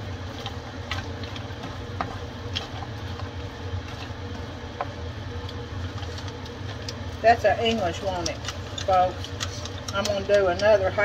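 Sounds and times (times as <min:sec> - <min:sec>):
range hood fan humming: 0:00.0 - 0:11.0.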